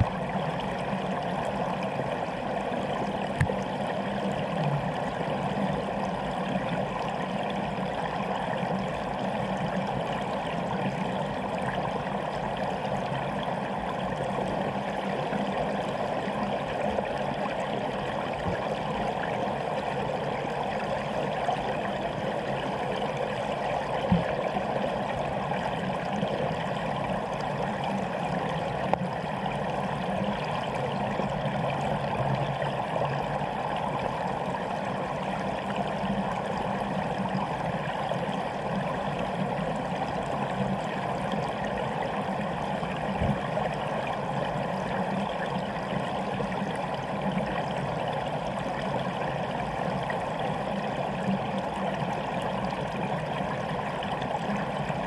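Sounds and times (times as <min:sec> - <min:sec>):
muffled underwater river rushing: 0:00.0 - 0:55.0.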